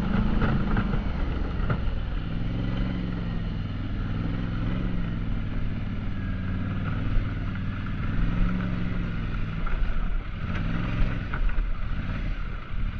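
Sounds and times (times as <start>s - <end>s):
atv engine running: 0.0s - 12.9s.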